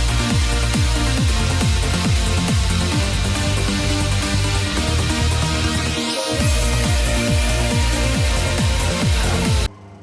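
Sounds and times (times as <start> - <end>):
trance music with kick drum: 0.0 - 9.7.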